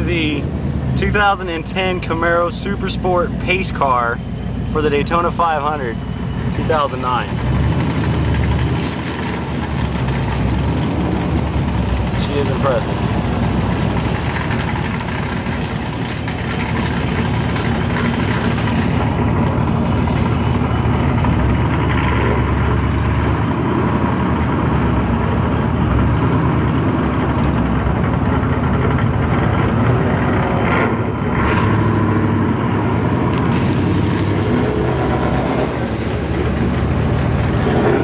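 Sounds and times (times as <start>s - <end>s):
truck diesel engine: 0.0s - 38.0s
vehicle engines idling: 0.0s - 38.0s.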